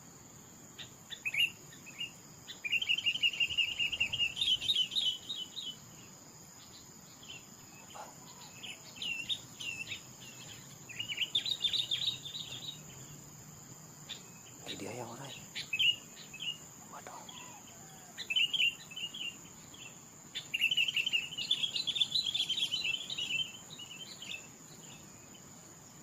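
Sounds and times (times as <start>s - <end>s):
insect drone: 0.0s - 26.0s
bird singing high chirps: 0.8s - 13.3s, 14.0s - 25.5s.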